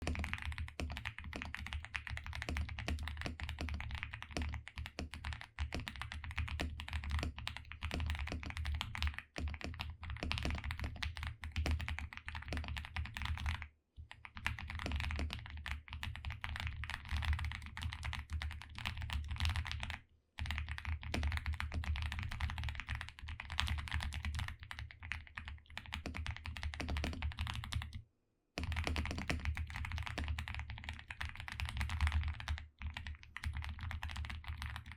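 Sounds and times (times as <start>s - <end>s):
typing on mechanical keyboard: 0.0s - 28.0s, 28.6s - 34.9s.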